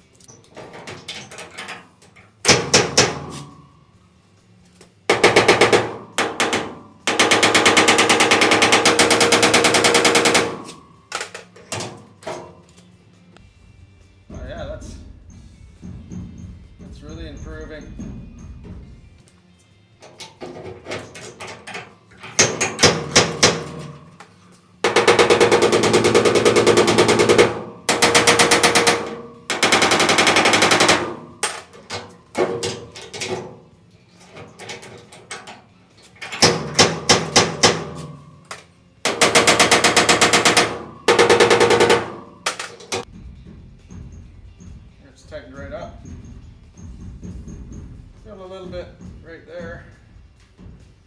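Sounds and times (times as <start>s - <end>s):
rapid hammering on sheet steel: 0.6s - 3.8s, 5.1s - 12.6s, 20.4s - 51.0s.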